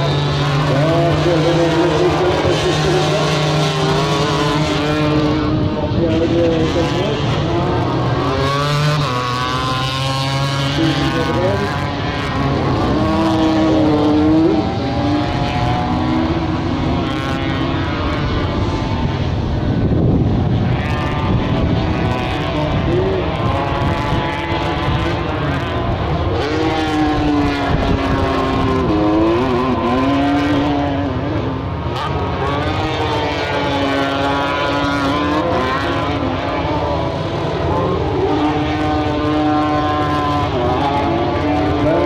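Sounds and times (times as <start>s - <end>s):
kart engines racing: 0.0s - 42.0s.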